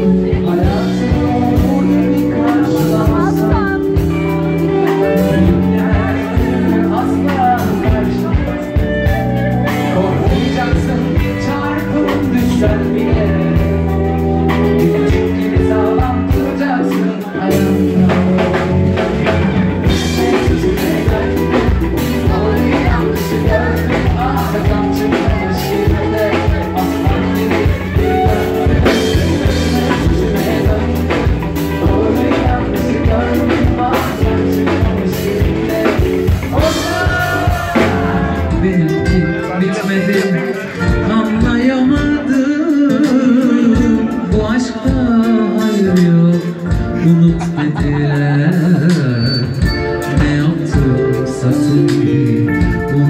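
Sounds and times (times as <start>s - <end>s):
band playing music: 0.0s - 53.0s
person singing: 0.0s - 53.0s
steady drum beat: 0.0s - 53.0s.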